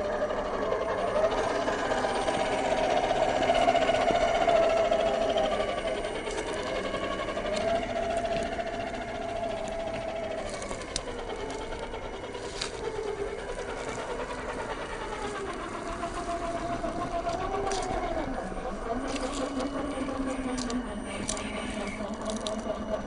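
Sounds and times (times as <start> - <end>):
toy truck motor whine: 0.0 - 23.0.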